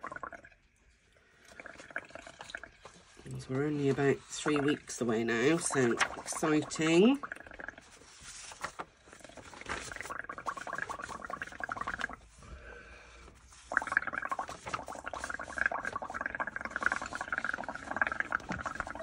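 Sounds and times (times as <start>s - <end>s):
air bubbling through soapy paint: 0.0s - 0.7s, 1.3s - 12.4s, 13.3s - 19.0s.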